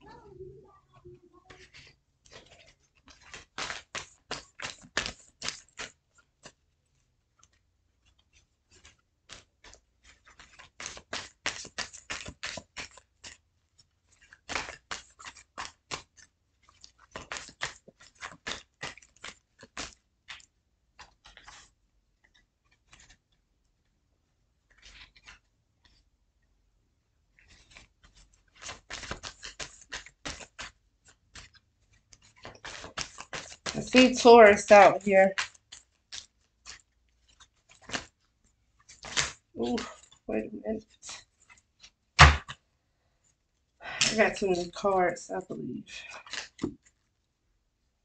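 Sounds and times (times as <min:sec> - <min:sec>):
cards being shuffled: 0:00.8 - 0:23.4, 0:24.6 - 0:26.0, 0:27.3 - 0:42.6, 0:46.0 - 0:47.1.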